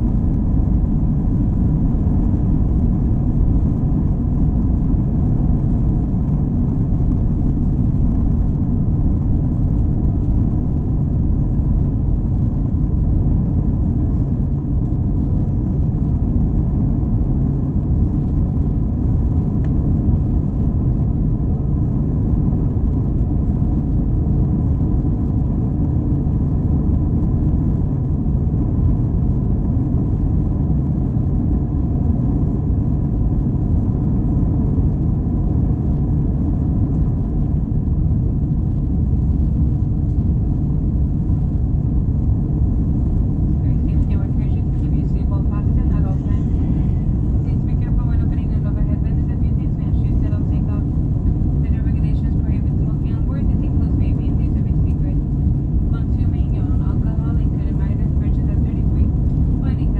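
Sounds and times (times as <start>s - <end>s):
aircraft cabin engine rumble: 0.0s - 59.9s
faint steady hum: 0.0s - 59.9s.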